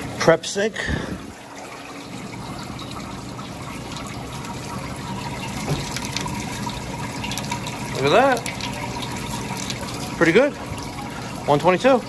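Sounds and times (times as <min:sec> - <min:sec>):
water running from faucet: 0:00.0 - 0:12.0
water splashing in sink: 0:00.8 - 0:12.0.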